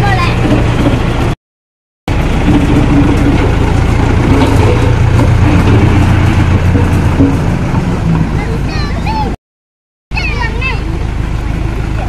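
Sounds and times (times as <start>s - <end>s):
diesel engine running: 0.0s - 1.4s, 2.1s - 9.4s, 10.1s - 12.0s.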